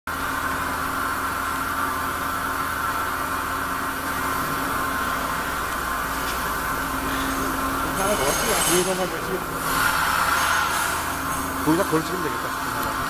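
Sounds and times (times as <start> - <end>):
machinery hum and hiss: 0.1 - 13.0.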